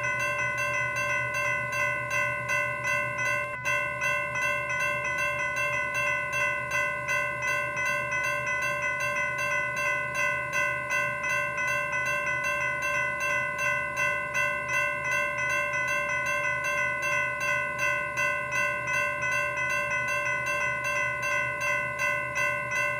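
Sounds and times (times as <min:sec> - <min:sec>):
railroad crossing bell ringing: 0:00.0 - 0:22.9.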